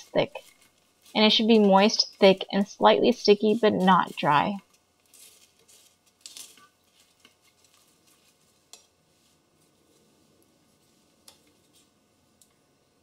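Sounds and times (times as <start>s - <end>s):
spatula stirring thick paste: 0.0s - 12.0s.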